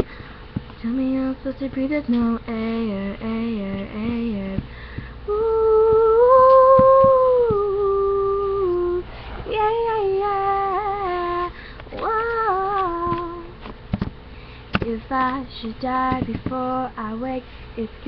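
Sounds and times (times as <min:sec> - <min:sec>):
girl singing wordless notes: 0:00.0 - 0:13.7, 0:14.7 - 0:18.0.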